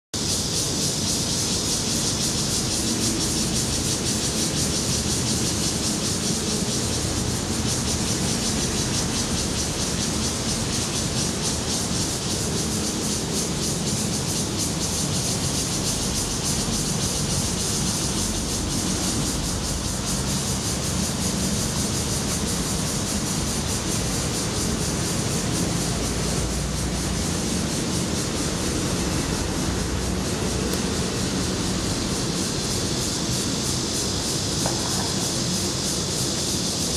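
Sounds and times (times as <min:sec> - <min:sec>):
cicadas singing: 0:00.2 - 0:36.9.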